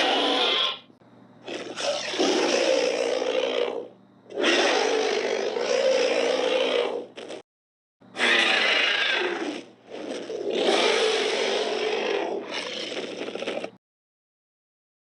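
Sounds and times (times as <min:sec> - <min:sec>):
animal roars: 0:00.0 - 0:00.8, 0:01.4 - 0:07.1, 0:08.2 - 0:13.7.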